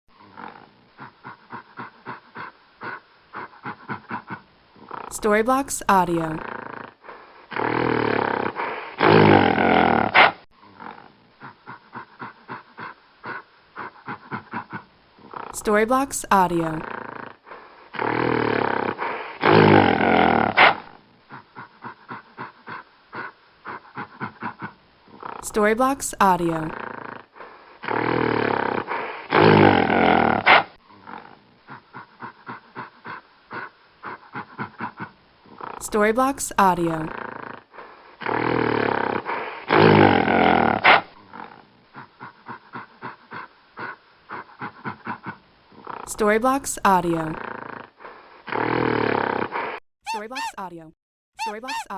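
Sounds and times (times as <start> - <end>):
rhythmic breaths or grunts: 0.1 - 50.5.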